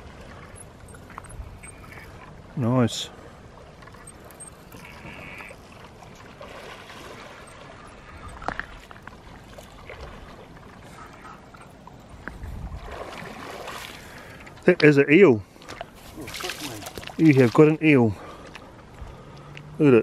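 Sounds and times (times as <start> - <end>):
water sloshing and splashing: 0.0 - 19.7.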